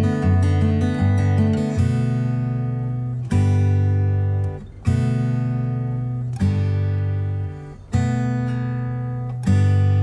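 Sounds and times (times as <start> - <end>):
acoustic guitar melody: 0.0 - 10.0.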